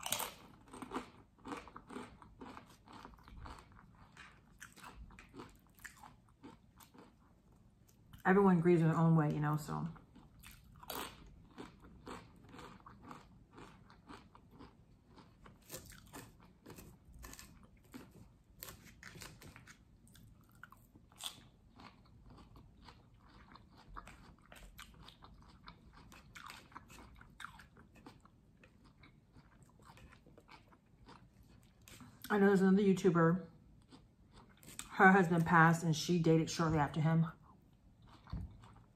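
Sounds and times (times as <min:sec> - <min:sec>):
person chewing crunchy food: 0:00.0 - 0:08.2, 0:10.0 - 0:32.3, 0:33.5 - 0:35.0, 0:37.4 - 0:38.9.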